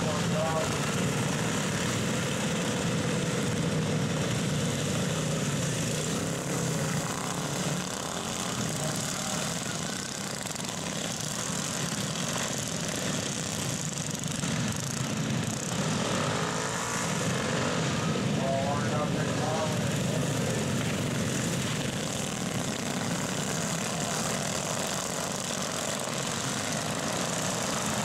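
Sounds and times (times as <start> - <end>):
small engines running hard: 0.0 - 28.0.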